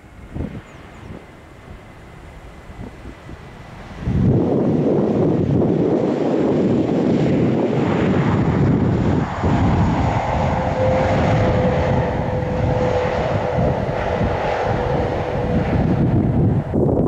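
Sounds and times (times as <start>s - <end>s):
airliner engine noise: 0.0s - 17.0s
high steady engine whine: 0.0s - 17.0s.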